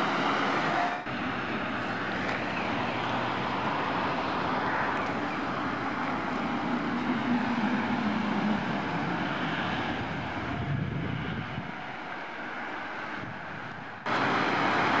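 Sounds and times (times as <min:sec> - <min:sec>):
cars and bus passing: 0:00.0 - 0:15.0.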